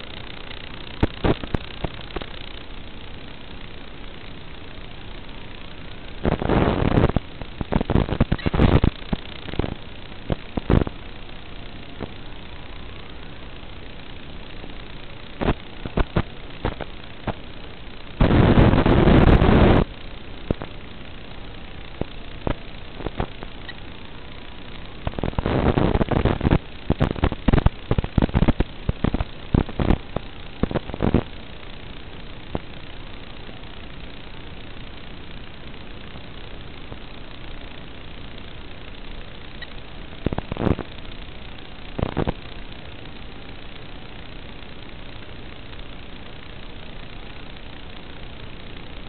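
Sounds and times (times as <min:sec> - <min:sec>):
loud crackling noise bursts: 0:00.0 - 0:49.0
steady hum and hiss: 0:00.0 - 0:49.0.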